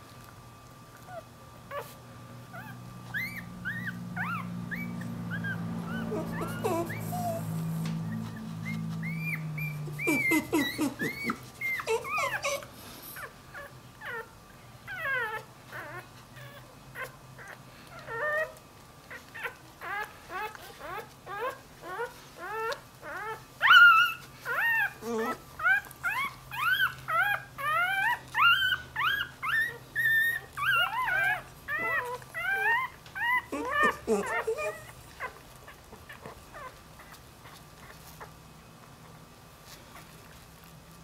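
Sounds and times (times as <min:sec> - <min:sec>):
puppy whining: 0:00.0 - 0:41.0.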